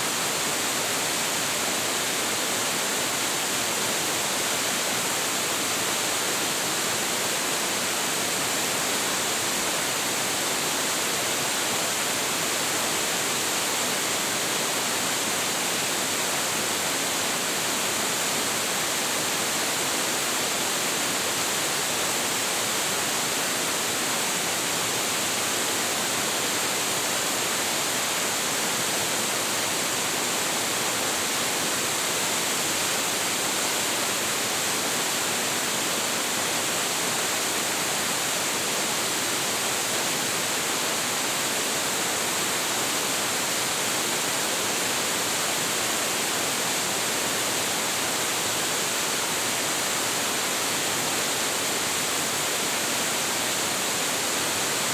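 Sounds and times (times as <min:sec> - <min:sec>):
waterfall rushing into pool: 0:00.0 - 0:54.9.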